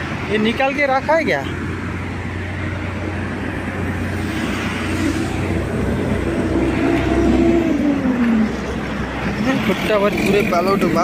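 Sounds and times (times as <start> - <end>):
road traffic: 0.0 - 11.0
vehicle engine passing by: 1.6 - 11.0.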